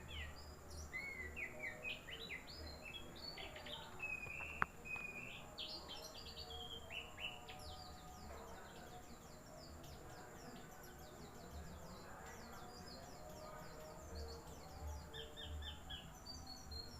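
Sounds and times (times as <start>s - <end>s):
bird twittering song: 0.0s - 16.9s.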